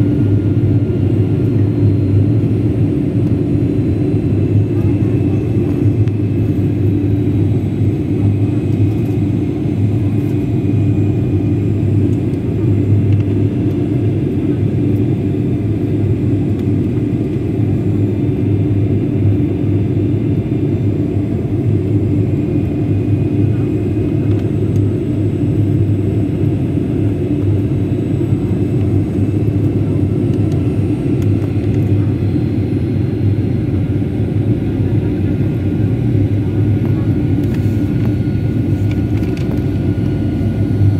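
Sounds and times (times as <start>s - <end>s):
airliner engine drone in cabin: 0.0s - 40.9s.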